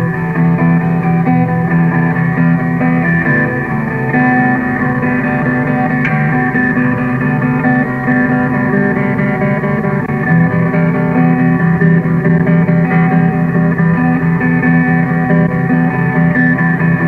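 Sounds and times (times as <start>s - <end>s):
layered sustained guitar tones: 0.0s - 17.0s.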